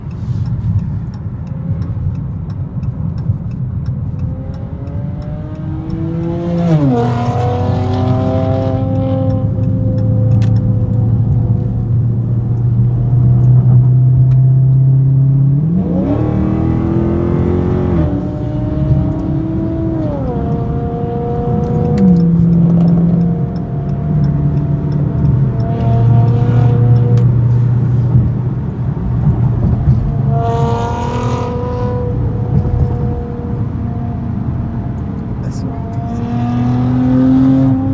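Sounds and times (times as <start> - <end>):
car exhaust accelerating: 0.0 - 37.9.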